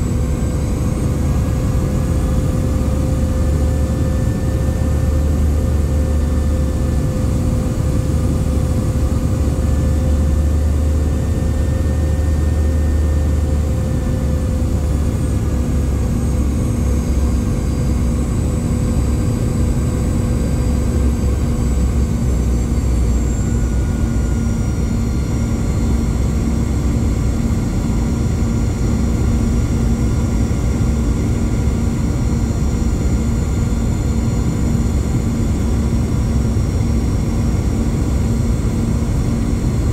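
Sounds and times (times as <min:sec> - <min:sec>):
high engine whine: 0:00.0 - 0:39.9
jet engines low rumble: 0:00.0 - 0:39.9.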